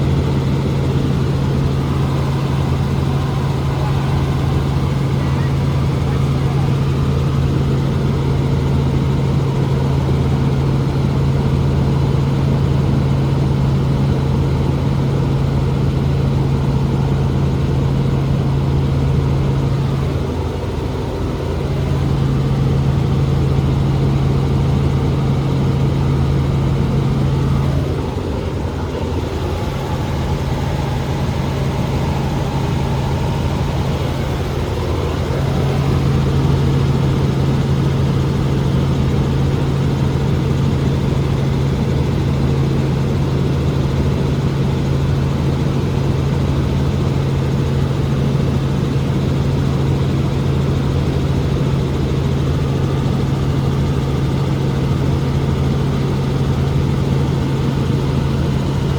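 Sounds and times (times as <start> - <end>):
helicopter cabin drone: 0.0 - 58.9.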